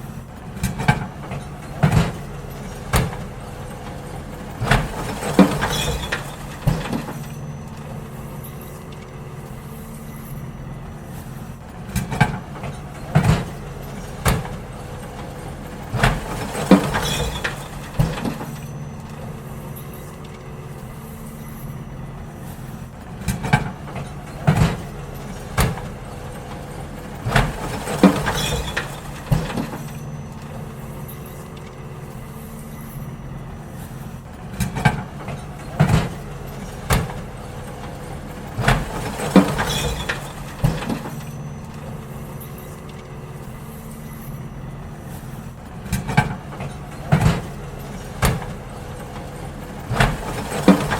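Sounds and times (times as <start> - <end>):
bins clanking and banging: 0.0 - 50.9
truck engine running: 0.0 - 50.9.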